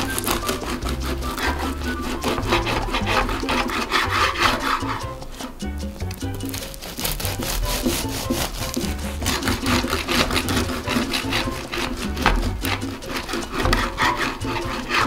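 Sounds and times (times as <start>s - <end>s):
bread knife sawing through loaf: 0.0s - 5.5s, 6.4s - 15.0s
soft background music: 0.0s - 15.0s.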